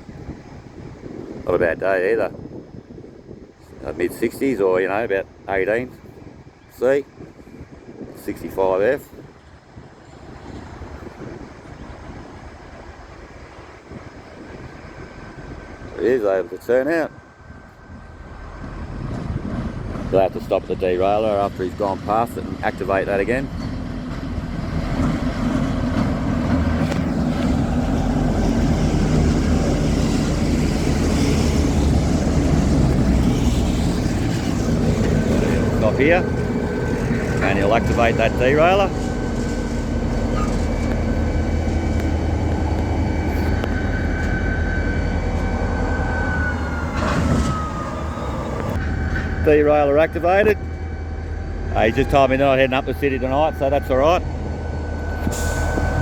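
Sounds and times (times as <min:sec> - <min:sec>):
locomotive engine droning: 0:09.5 - 0:56.0.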